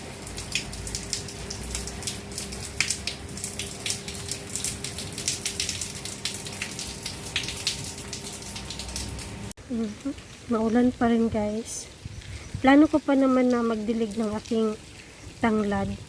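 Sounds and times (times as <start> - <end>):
raindrops pattering: 0.0 - 16.0.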